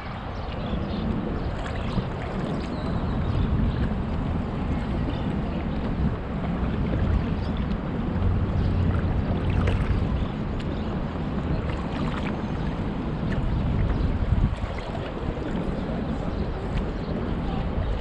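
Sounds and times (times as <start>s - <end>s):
water lapping: 0.0s - 18.0s
water splashes: 0.0s - 18.0s
wind rumbling on microphone: 0.0s - 18.0s.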